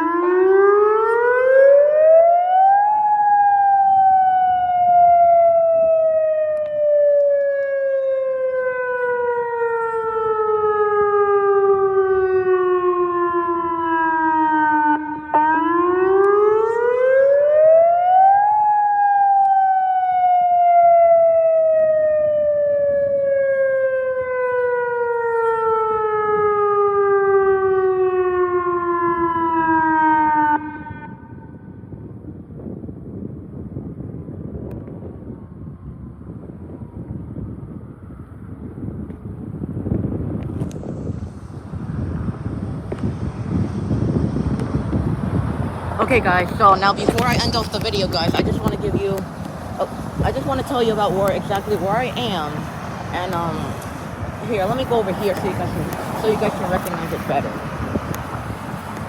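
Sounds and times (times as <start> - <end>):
warning siren wailing: 0.0 - 32.4, 33.8 - 59.0.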